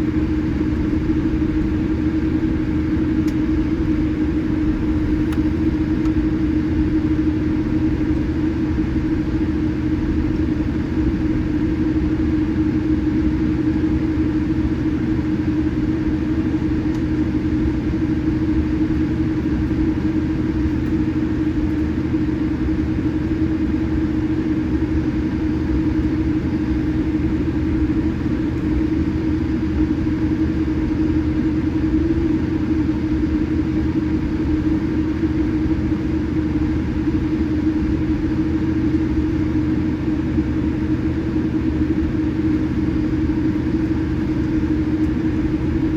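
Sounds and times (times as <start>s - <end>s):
airplane cabin drone: 0.0s - 45.9s.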